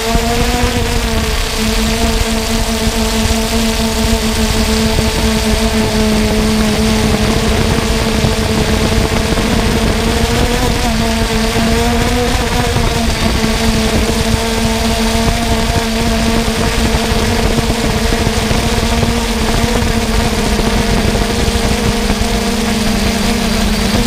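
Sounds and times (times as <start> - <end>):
drone propellers humming: 0.0 - 24.0.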